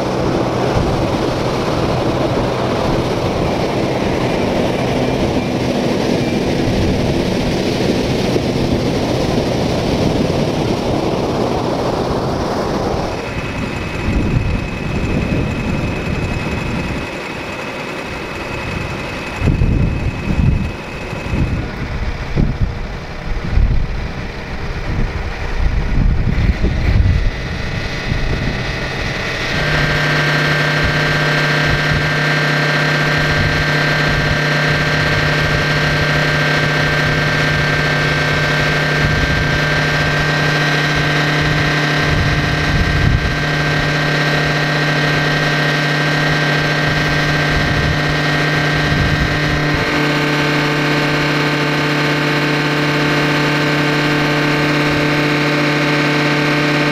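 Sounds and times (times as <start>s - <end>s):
tractor diesel engine rumbling: 0.0s - 56.9s.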